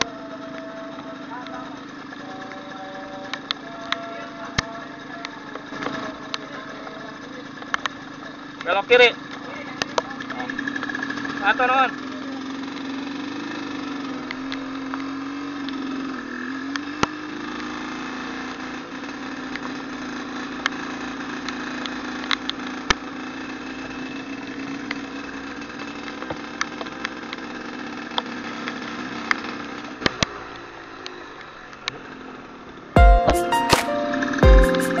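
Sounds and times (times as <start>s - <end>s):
motorcycle engine at low revs: 0.0s - 32.9s.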